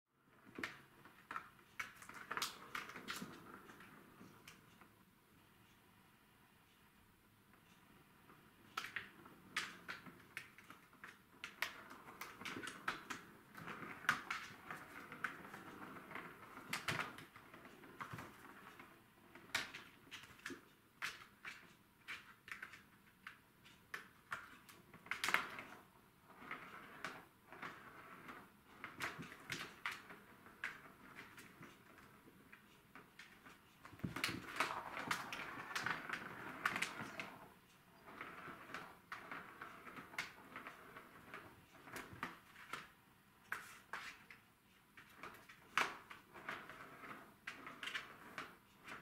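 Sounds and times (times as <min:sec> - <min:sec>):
plastic ball rolling on track: 0:00.3 - 0:04.9, 0:08.1 - 0:49.0.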